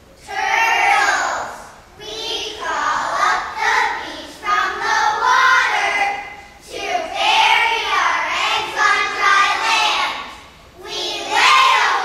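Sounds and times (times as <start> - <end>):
children's choir singing: 0.2 - 12.0.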